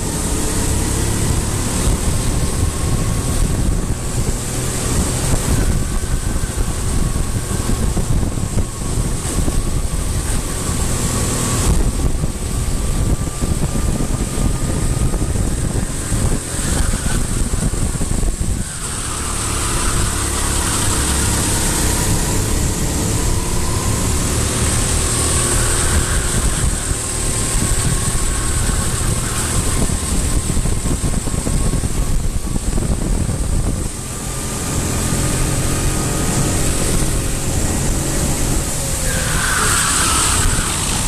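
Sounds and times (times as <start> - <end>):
racing engines revving: 0.0 - 41.0
steady rushing noise: 0.0 - 41.0.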